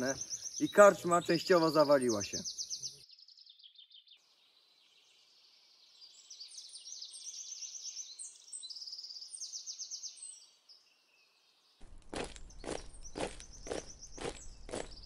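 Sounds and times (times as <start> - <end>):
songbirds trilling and chirping: 0.0 - 15.0.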